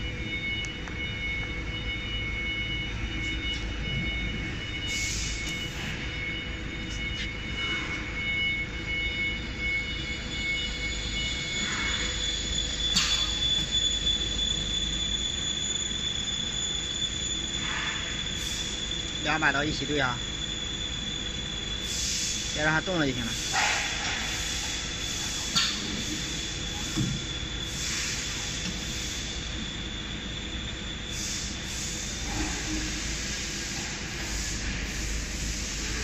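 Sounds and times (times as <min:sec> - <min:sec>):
spindle motors whining: 0:00.0 - 0:36.0.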